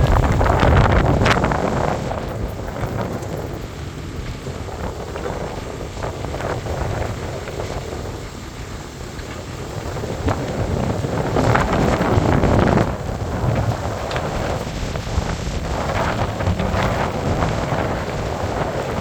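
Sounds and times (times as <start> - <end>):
wind buffeting the microphone: 0.0 - 19.0.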